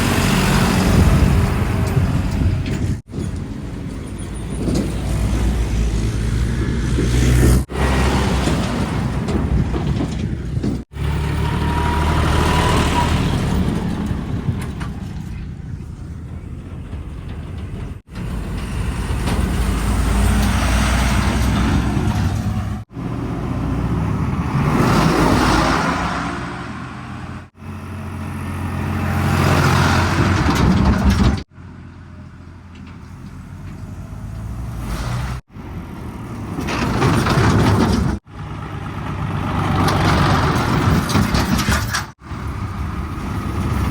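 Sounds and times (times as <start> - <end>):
diesel engines revving under load: 0.0 - 43.9.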